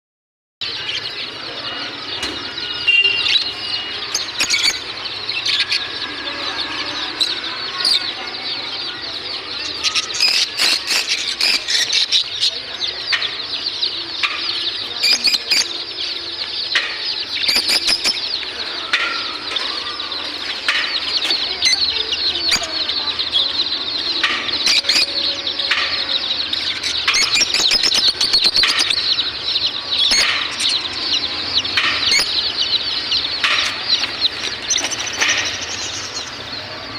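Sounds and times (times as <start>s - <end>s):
caged birds chirping and chattering: 0.6s - 36.9s.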